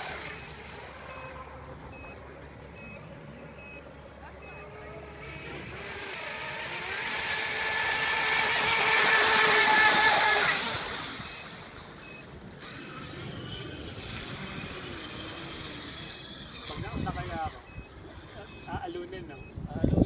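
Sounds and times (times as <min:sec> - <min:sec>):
rc boat motor whine: 0:00.0 - 0:19.8.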